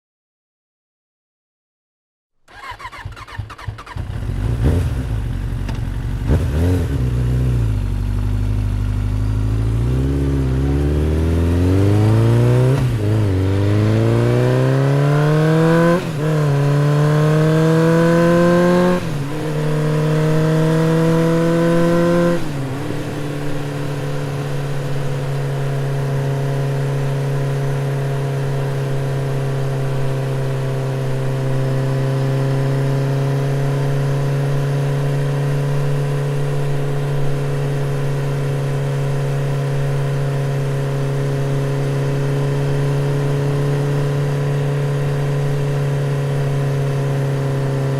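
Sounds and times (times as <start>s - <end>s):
motorcycle engine accelerating: 2.5s - 47.9s.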